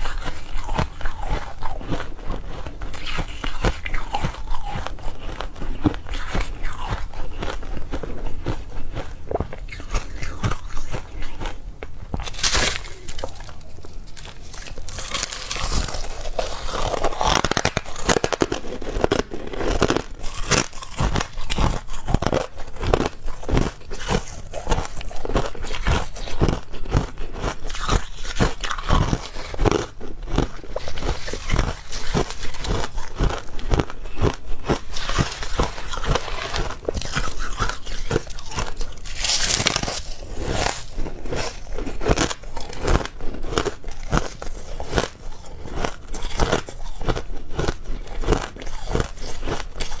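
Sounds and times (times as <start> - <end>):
chewing ice crunching: 0.0 - 50.0.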